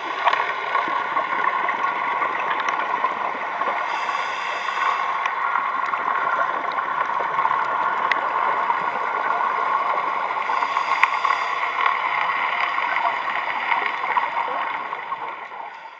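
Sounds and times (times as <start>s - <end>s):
underwater rushing hiss: 0.0s - 15.9s.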